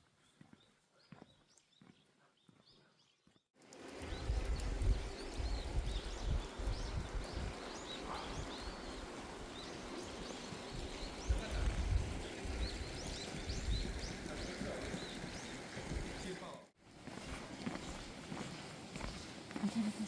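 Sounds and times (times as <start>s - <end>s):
small birds chirping: 0.0s - 16.6s, 17.2s - 20.0s.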